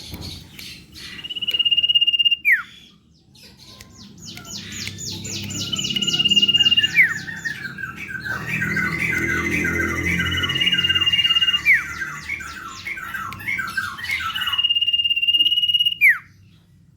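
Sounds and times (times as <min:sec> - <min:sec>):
bird chirps and whistle: 0:00.1 - 0:02.9, 0:04.0 - 0:16.3.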